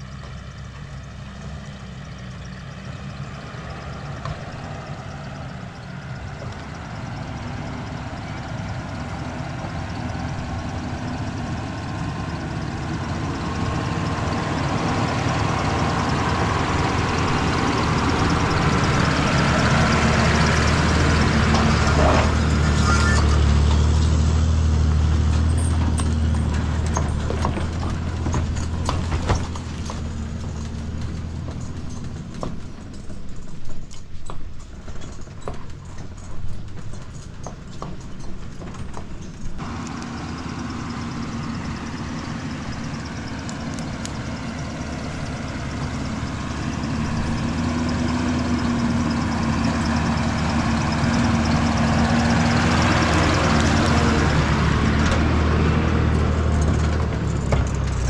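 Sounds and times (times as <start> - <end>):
vehicle engine running: 0.0 - 58.0
knocks and rattles: 6.4 - 58.0.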